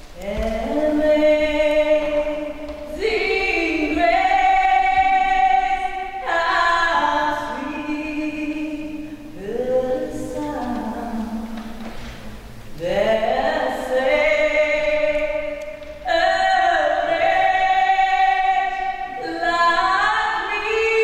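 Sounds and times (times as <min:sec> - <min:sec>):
women singing a cappella: 0:00.0 - 0:21.0.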